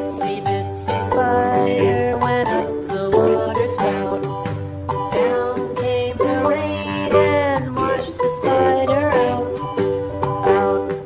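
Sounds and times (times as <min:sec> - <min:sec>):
music of short pitched notes: 0:00.9 - 0:11.0.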